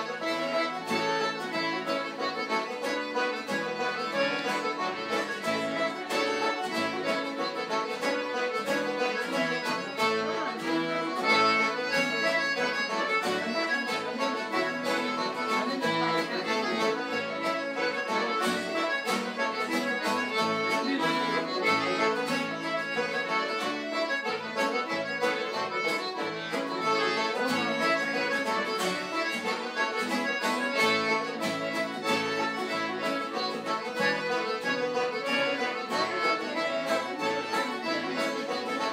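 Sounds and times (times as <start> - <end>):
band playing a tune: 0.0 - 38.9.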